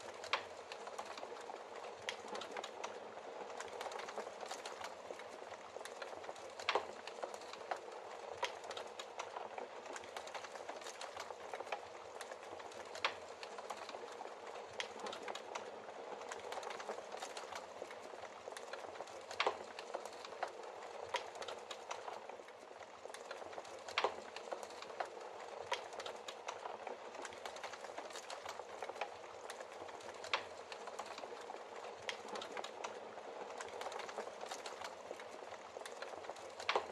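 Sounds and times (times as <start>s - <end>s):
logs crackling and popping: 0.0s - 36.9s.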